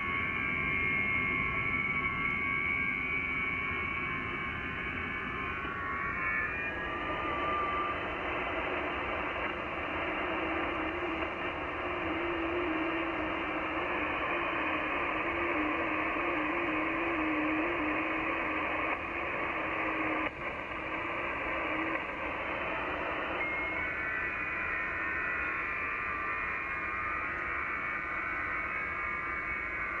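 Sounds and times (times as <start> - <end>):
radio band hiss: 0.0 - 30.0.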